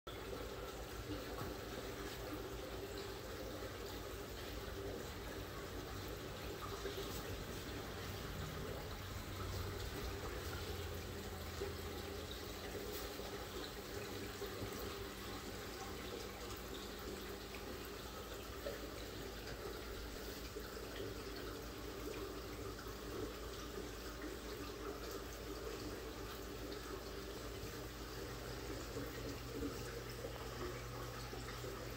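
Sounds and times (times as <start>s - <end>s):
low steady hum: 0.1s - 31.9s
water rushing and trickling: 0.1s - 31.9s.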